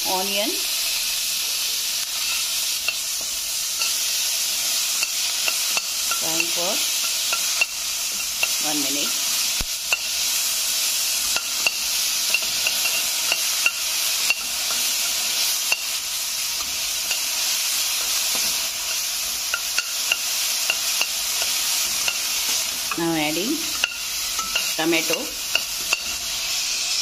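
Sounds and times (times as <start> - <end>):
onion sizzling in hot oil: 0.0 - 27.0
metal spatula scraping a pan: 2.1 - 10.2, 11.2 - 16.0, 16.6 - 27.0.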